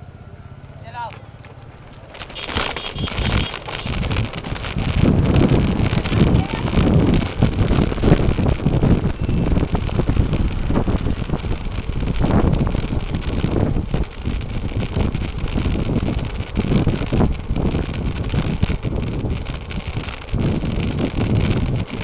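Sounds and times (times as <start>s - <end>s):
road and vehicle noise: 0.0s - 22.0s
wind buffeting microphone: 1.7s - 22.0s.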